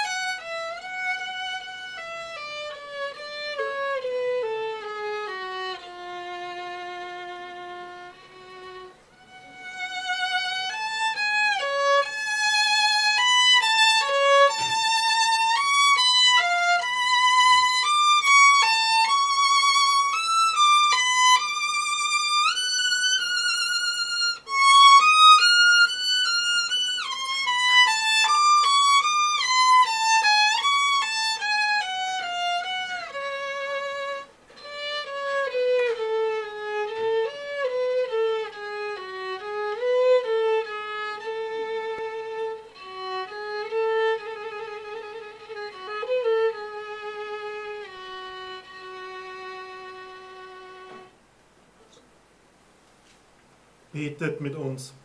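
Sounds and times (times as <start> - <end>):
solo violin melody: 0.0 - 51.2.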